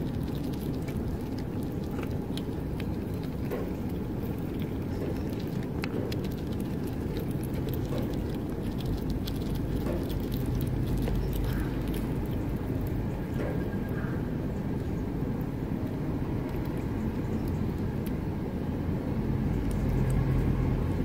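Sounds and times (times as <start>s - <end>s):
squirrel nibbling nuts on wood: 0.0s - 18.3s
steady low rumble: 0.0s - 21.0s.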